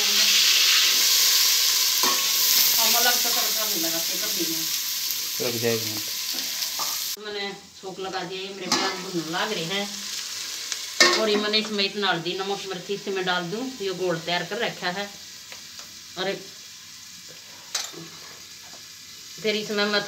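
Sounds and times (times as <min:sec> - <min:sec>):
onions sizzling in a pot: 0:00.0 - 0:20.0.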